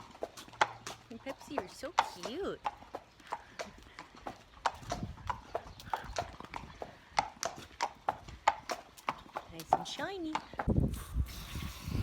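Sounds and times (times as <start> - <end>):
horse hooves clip-clopping: 0.0 - 10.9.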